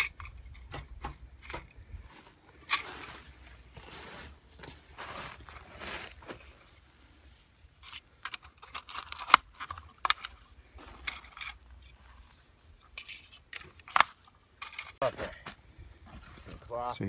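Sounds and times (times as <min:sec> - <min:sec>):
rock crunching and shifting: 0:00.0 - 0:17.0.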